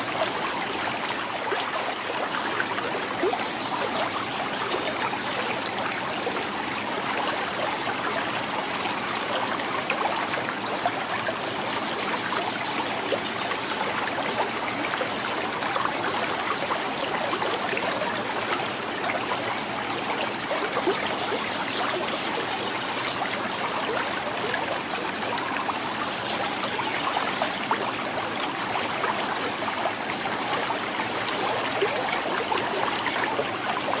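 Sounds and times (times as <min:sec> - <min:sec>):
stream gurgling over stones: 0:00.0 - 0:34.0.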